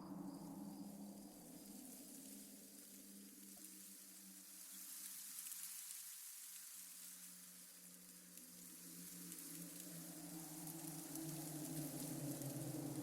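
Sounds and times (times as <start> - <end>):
soft crackling hiss: 0.0 - 13.0.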